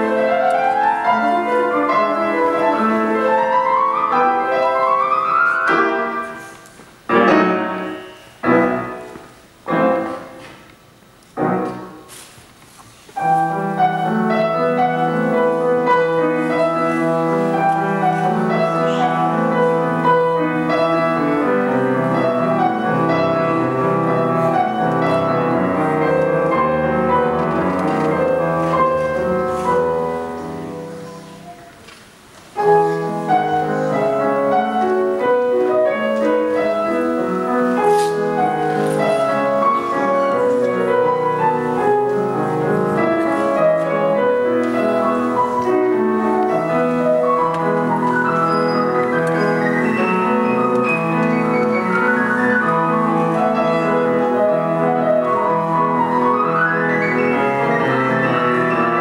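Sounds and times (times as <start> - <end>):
solo classical piano: 0.0 - 59.0.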